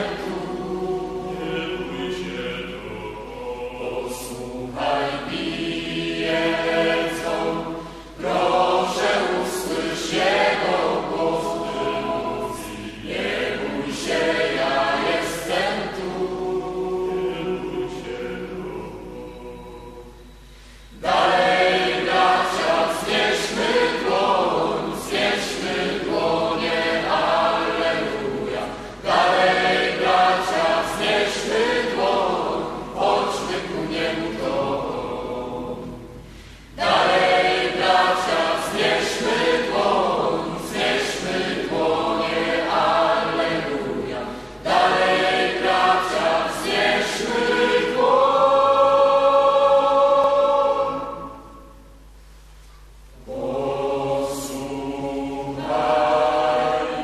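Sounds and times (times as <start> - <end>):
choir singing: 0.0 - 52.0, 53.2 - 57.0.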